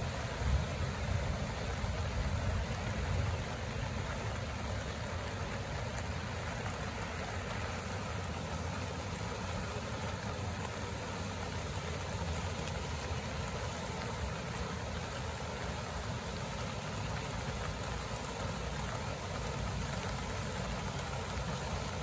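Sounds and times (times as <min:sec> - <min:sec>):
flooded river rushing: 0:00.0 - 0:22.0.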